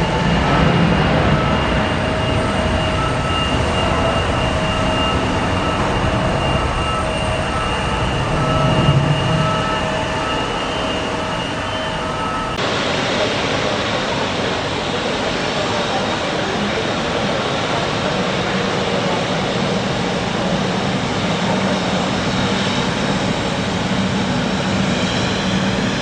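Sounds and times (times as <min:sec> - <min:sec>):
faint engine whine: 0:00.0 - 0:26.0
jet engines roaring: 0:00.0 - 0:26.0.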